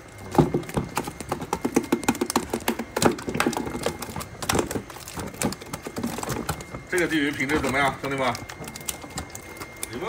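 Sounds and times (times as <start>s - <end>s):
fish flopping and slapping: 0.0s - 10.0s.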